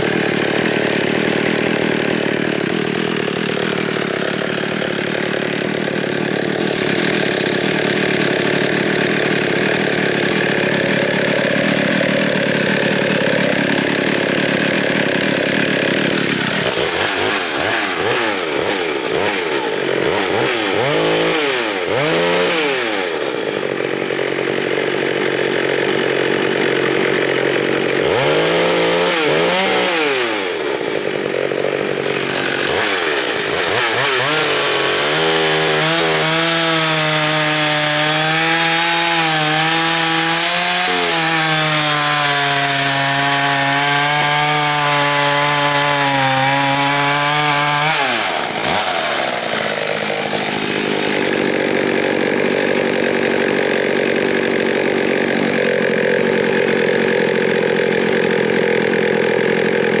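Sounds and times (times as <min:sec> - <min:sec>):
chainsaw cutting a log: 0:00.0 - 1:00.0.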